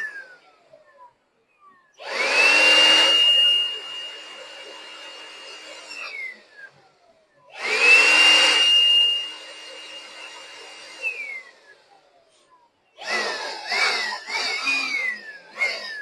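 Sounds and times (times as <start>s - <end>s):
electric blower motor whine: 0.0s - 16.0s.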